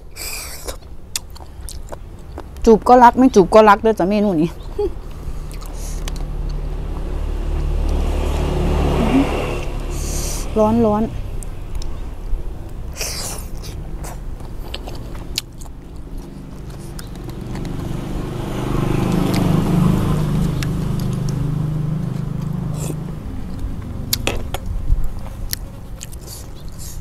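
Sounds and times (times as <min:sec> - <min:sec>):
chewing and sucking snails: 0:00.0 - 0:03.0, 0:04.6 - 0:08.4, 0:11.3 - 0:27.0
passing vehicle rumble: 0:01.5 - 0:27.0.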